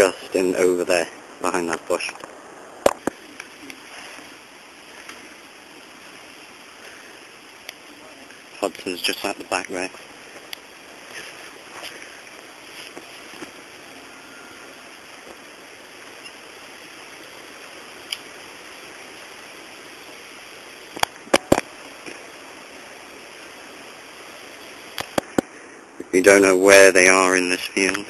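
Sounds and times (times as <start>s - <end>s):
outdoor hiss: 0.0s - 28.0s.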